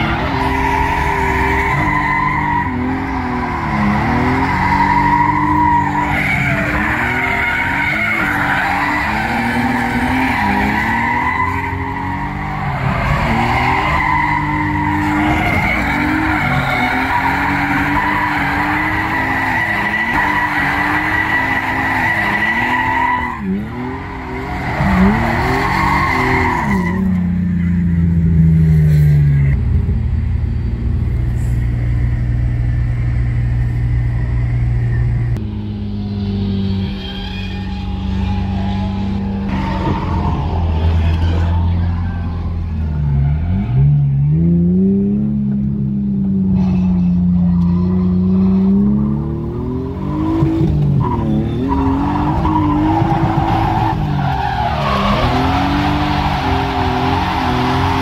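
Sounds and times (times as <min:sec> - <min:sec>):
tyres squealing and skidding: 0:00.0 - 0:29.6, 0:33.8 - 0:44.6, 0:46.4 - 0:58.0
car engines revving: 0:00.0 - 0:58.0.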